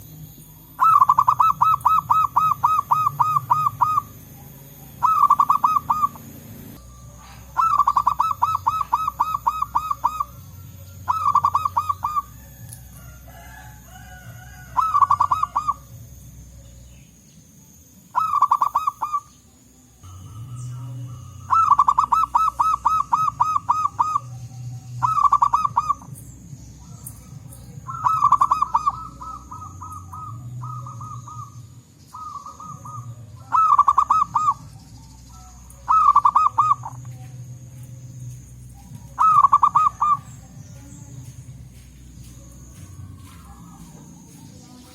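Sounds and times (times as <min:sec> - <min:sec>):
low steady hum: 0:00.0 - 0:44.9
dove cooing: 0:00.7 - 0:16.3, 0:18.1 - 0:19.4, 0:20.4 - 0:41.3.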